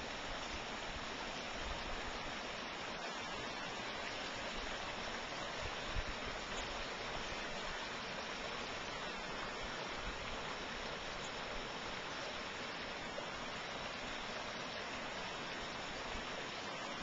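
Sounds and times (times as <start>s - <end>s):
creek water over rocks: 0.0s - 17.0s.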